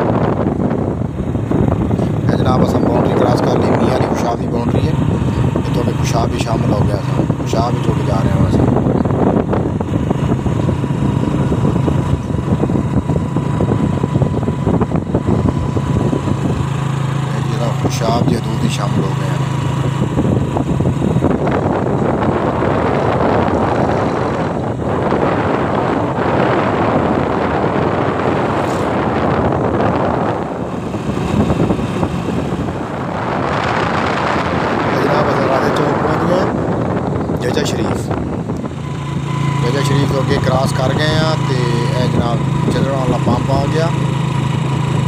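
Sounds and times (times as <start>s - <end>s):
rough rushing noise: 0.0s - 45.0s
vehicle engine running: 0.0s - 45.0s
wind on microphone: 0.0s - 45.0s.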